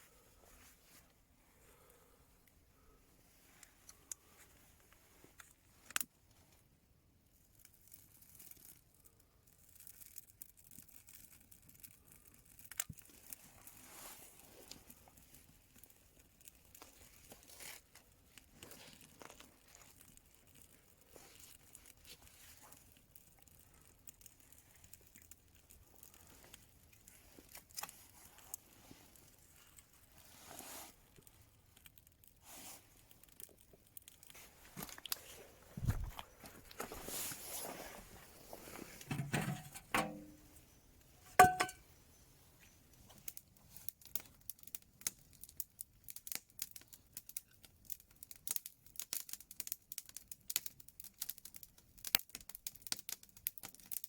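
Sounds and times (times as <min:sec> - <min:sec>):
faint crackles and rustles: 0:00.0 - 0:54.0.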